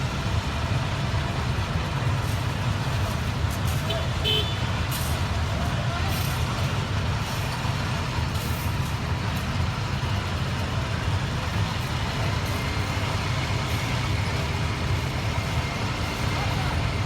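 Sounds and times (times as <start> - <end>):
heavy truck engine rumbling: 0.0 - 17.0.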